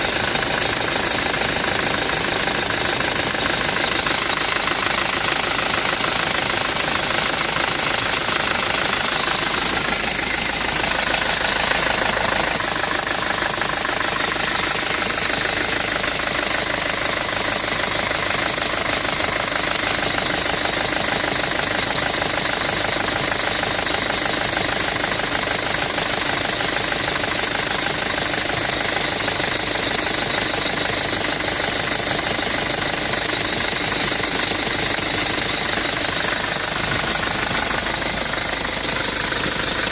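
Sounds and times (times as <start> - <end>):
engine running with clatter: 0.0 - 39.9.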